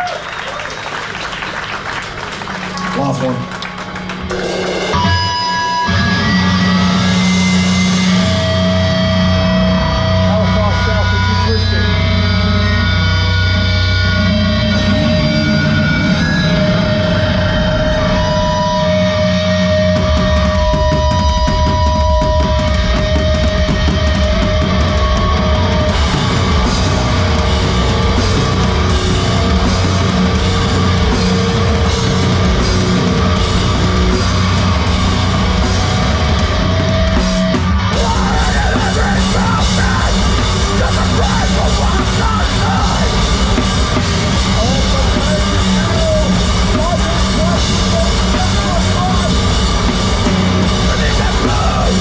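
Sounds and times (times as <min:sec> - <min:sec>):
bass guitar: 0:00.0 - 0:52.0
distorted electric guitars: 0:00.0 - 0:52.0
pounding drum kit: 0:01.3 - 0:52.0.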